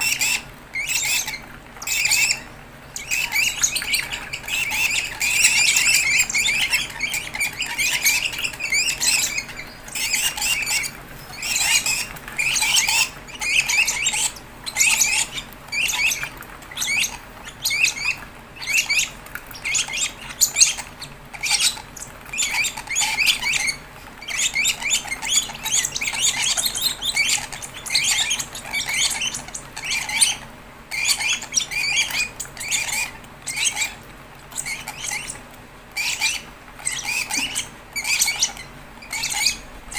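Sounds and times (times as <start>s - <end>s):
bird chicks chattering begging calls: 0.0s - 39.9s.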